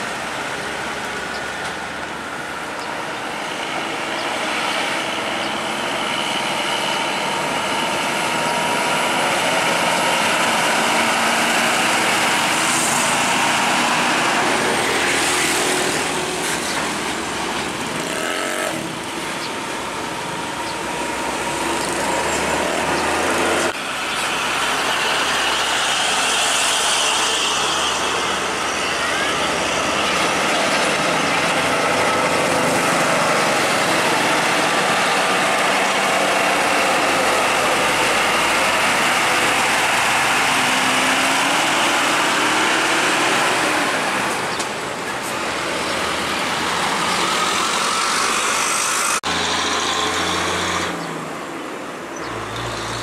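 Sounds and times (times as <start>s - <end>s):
diesel truck passing: 0.0s - 53.0s.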